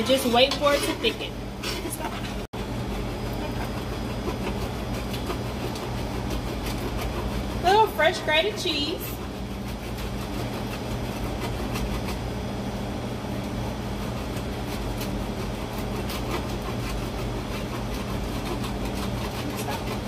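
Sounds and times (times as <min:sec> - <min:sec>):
cheese grating on metal grater: 0:00.0 - 0:12.6, 0:13.6 - 0:20.0
low mechanical hum: 0:00.0 - 0:20.0.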